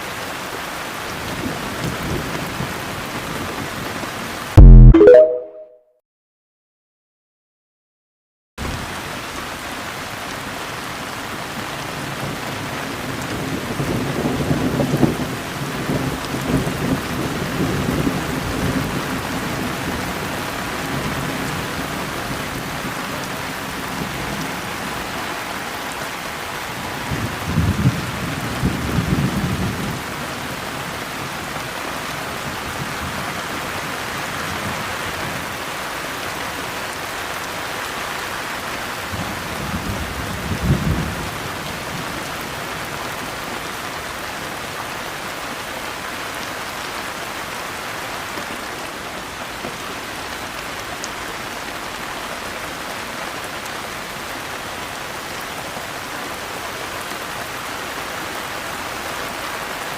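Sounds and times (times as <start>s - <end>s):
rain falling: 0.0s - 4.5s, 8.6s - 59.9s.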